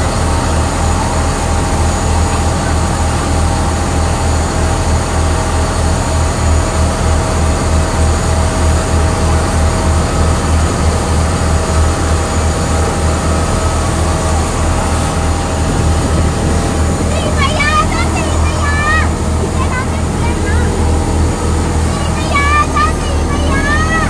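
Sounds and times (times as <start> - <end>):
ferry engine droning: 0.0 - 24.0.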